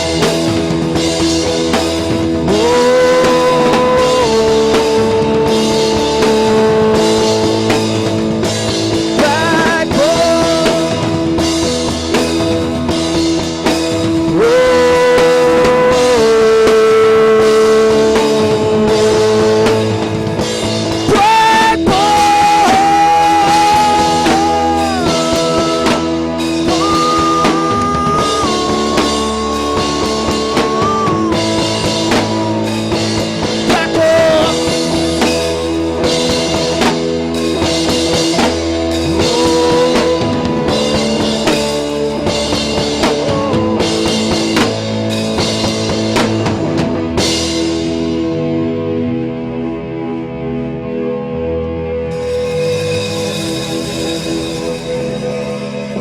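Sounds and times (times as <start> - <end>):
electric guitar lead notes: 0.0 - 56.0
rock band playing live: 0.0 - 56.0.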